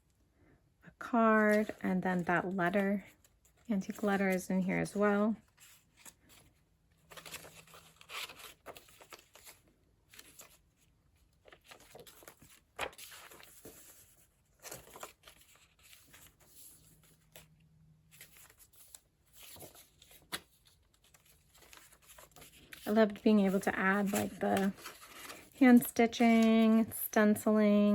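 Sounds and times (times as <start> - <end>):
paper rustling and crinkling: 1.4 - 4.4, 5.0 - 27.0.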